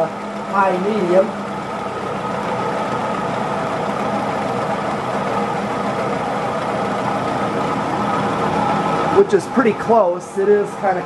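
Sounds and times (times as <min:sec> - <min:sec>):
ceiling fan motor humming: 0:00.0 - 0:11.0
rough running bearings: 0:00.0 - 0:11.0.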